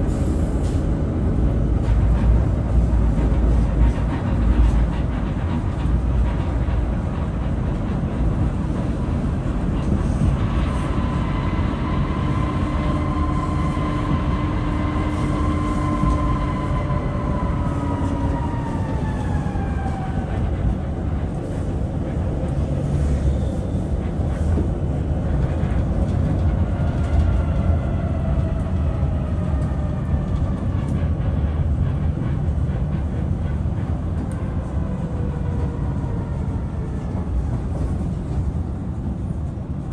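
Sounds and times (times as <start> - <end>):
tram rumbling on rails: 0.0 - 39.9
tram whine: 0.0 - 39.9.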